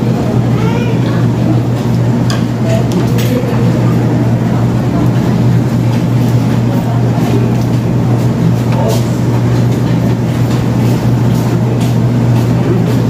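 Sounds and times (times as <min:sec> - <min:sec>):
faint background voices: 0:00.0 - 0:13.0
loud low hum: 0:00.0 - 0:13.0.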